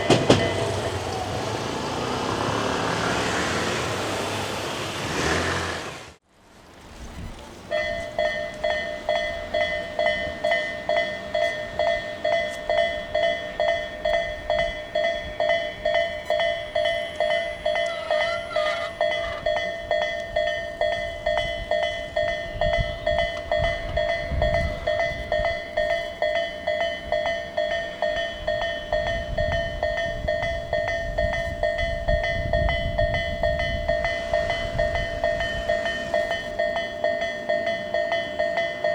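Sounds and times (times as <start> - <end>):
level crossing warning bell: 0.0 - 4.5, 7.6 - 38.9.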